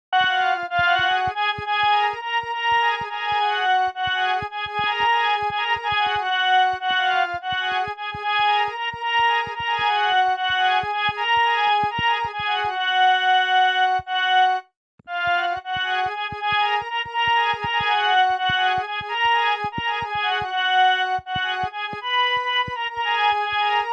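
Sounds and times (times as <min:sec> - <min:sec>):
keyboard melody: 0:00.2 - 0:23.9.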